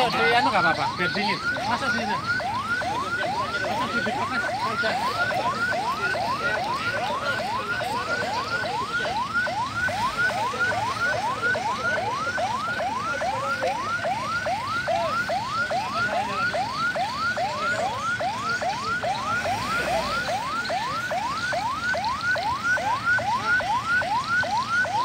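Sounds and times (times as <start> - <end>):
ambulance siren yelping: 0.0 - 25.0.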